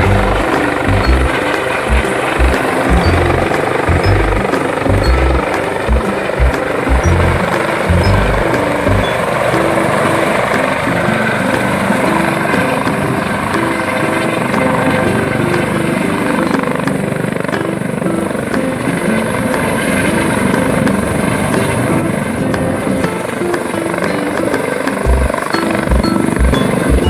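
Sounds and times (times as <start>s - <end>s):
helicopter rotor and turbine: 0.0s - 27.0s.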